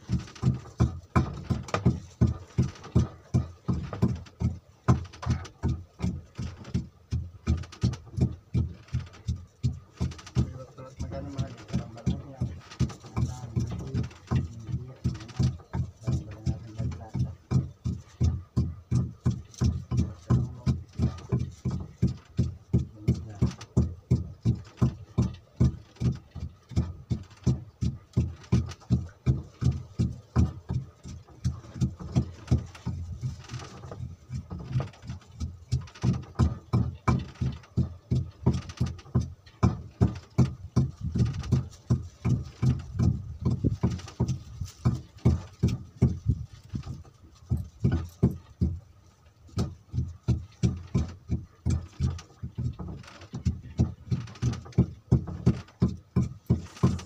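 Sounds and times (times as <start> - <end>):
boat engine thumping: 0.0 - 57.0.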